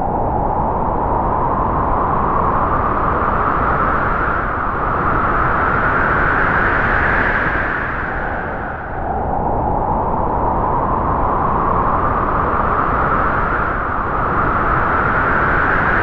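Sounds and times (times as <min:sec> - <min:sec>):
strong wind howling through trees: 0:00.0 - 0:16.0.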